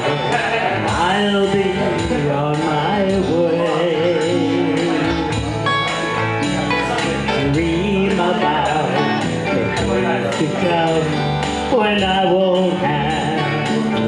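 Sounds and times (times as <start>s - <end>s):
electric guitar: 0.0s - 14.0s
steady beat: 0.0s - 14.0s.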